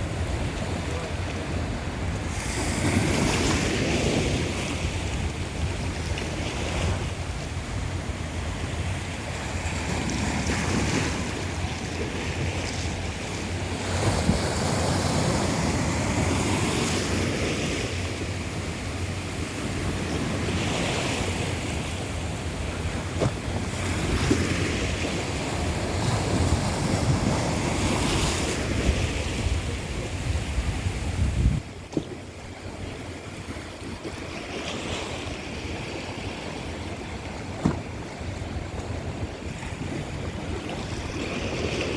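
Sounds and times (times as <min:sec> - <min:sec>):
sea waves washing in: 0:00.0 - 0:41.9
wind rumbling on microphone: 0:00.0 - 0:41.9.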